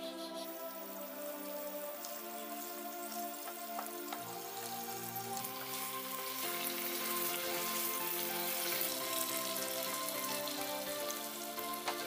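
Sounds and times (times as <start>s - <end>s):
background music: 0.0s - 12.0s
sauce sizzling in frying pan: 0.5s - 12.0s.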